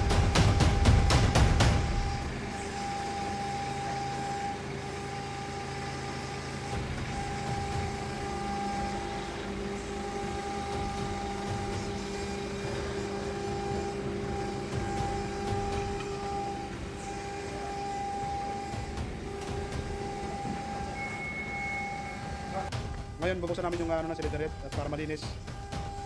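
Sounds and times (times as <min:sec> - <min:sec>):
air compressor running: 0:00.0 - 0:26.0.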